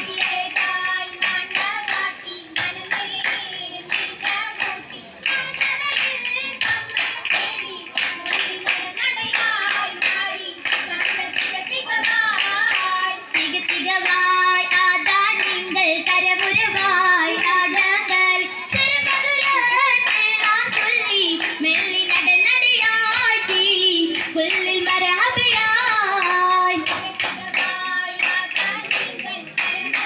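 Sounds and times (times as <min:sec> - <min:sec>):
girls singing in chorus: 0:00.0 - 0:30.0
rhythmic hand clapping: 0:00.0 - 0:30.0.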